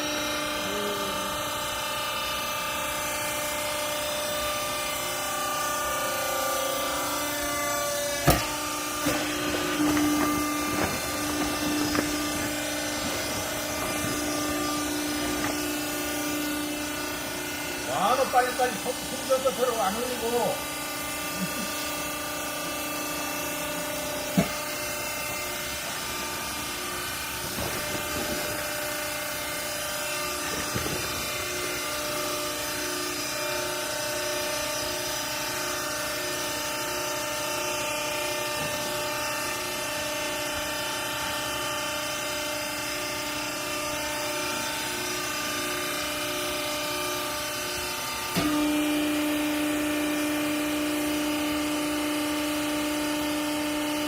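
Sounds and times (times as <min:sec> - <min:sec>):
electric motor and pump humming: 0:00.0 - 0:54.0.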